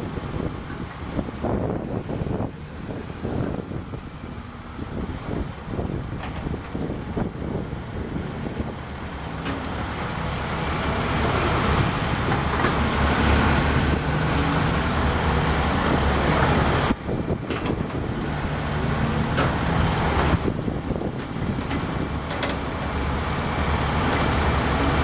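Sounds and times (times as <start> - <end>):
excavator diesel engine working: 0.0 - 25.0.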